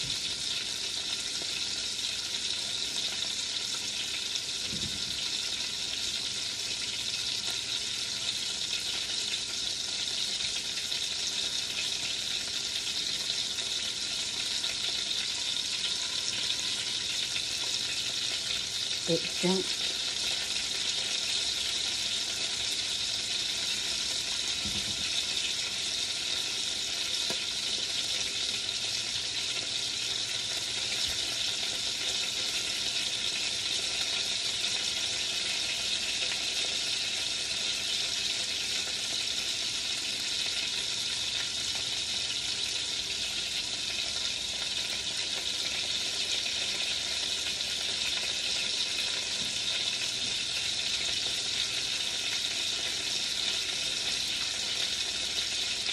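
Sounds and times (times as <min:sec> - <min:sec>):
chicken sizzling in a pot: 0:00.0 - 0:55.9.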